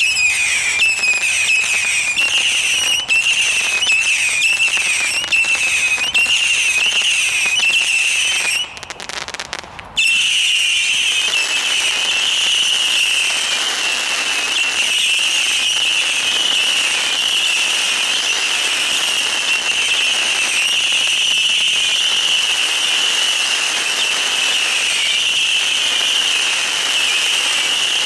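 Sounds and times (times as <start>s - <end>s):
whistling fireworks: 0.0s - 28.0s.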